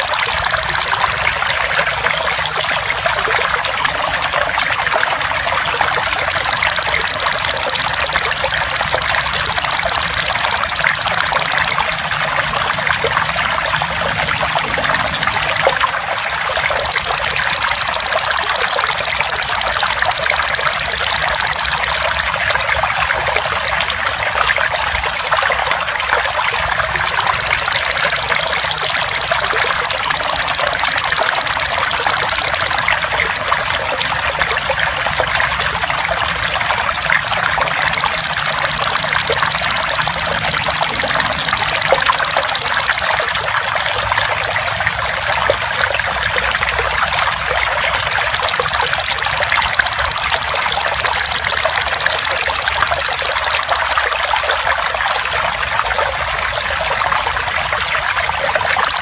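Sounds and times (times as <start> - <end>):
trickling gurgling water: 0.0 - 59.0.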